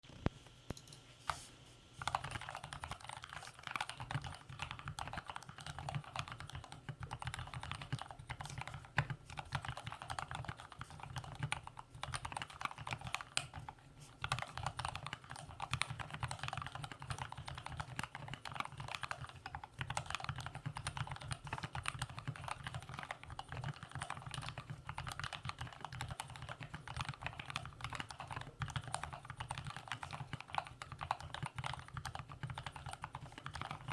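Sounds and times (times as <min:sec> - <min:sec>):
fast typing on mechanical keyboard: 0:02.0 - 0:33.9.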